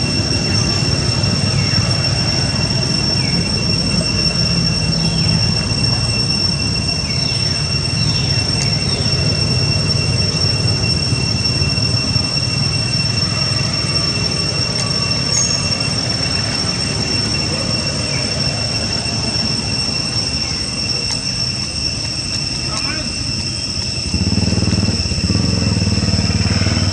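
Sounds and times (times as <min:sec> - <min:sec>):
cicadas droning: 0:00.0 - 0:26.9.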